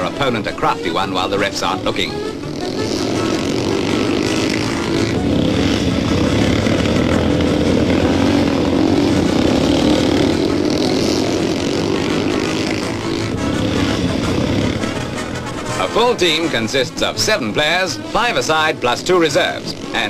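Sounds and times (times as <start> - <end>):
motorcycle engines buzzing: 0.0 - 20.0.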